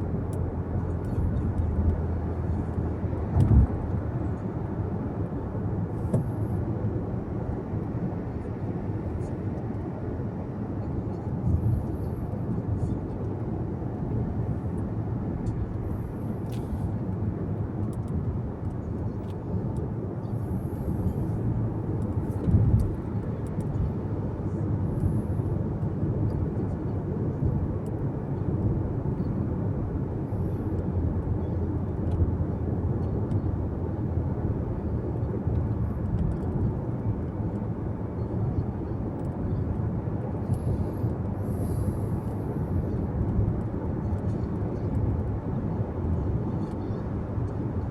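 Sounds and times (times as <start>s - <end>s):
car cabin road rumble: 0.0s - 47.9s.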